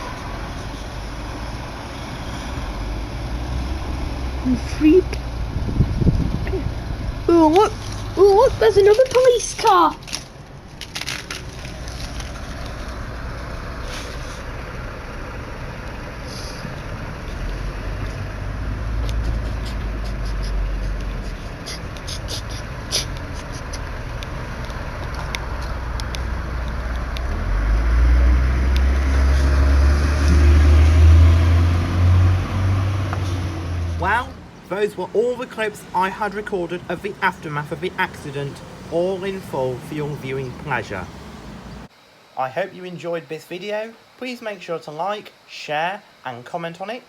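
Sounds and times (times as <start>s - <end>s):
vehicle engine rumble: 0.0s - 41.9s
street noise: 0.0s - 42.4s.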